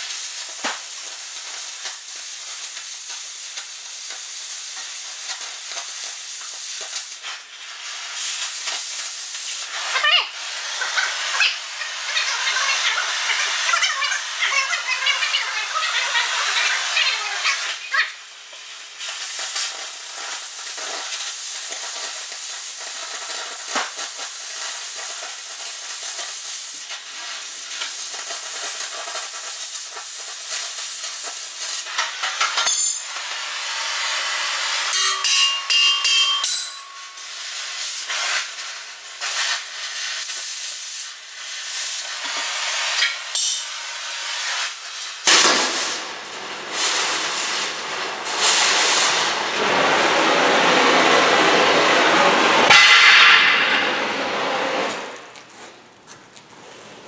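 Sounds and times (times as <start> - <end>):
electric arc hissing: 0.0 - 53.8.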